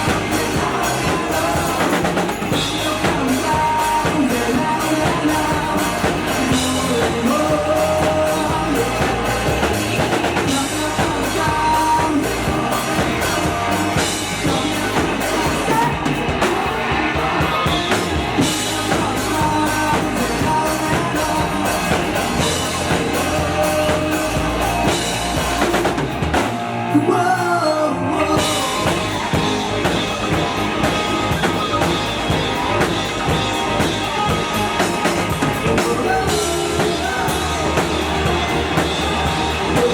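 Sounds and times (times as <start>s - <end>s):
person singing: 0.0s - 26.1s, 26.8s - 39.9s
rock band playing live: 0.0s - 39.9s.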